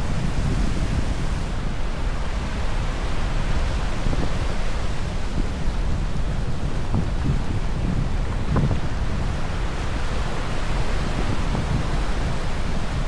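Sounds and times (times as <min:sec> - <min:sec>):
ocean surf on beach: 0:00.0 - 0:13.0
wind buffeting microphone: 0:00.0 - 0:13.0.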